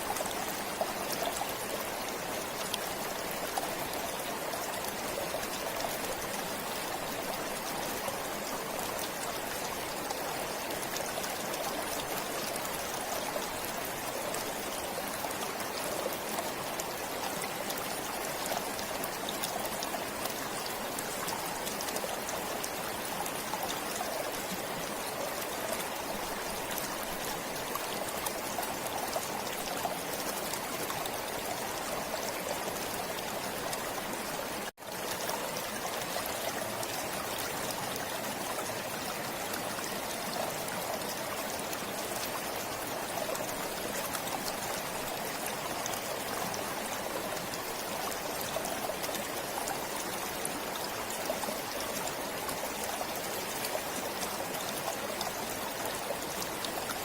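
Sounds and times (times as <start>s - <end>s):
stream flowing and trickling: 0.0s - 57.0s.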